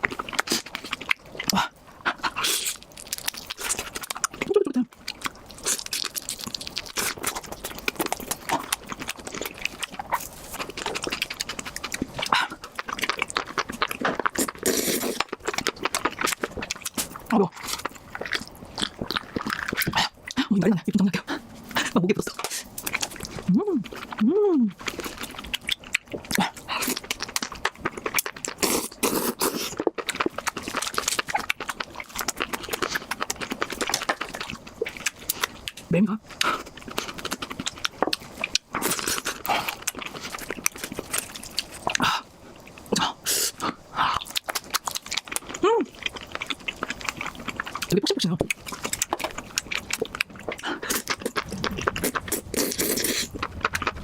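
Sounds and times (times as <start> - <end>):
wet chewing and mouth smacking: 0.0 - 54.0.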